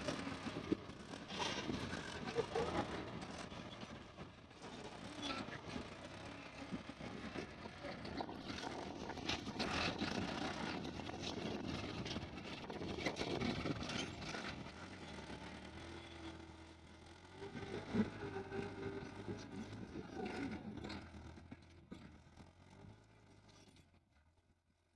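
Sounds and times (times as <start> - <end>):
tractor engine under load: 0.0 - 23.6.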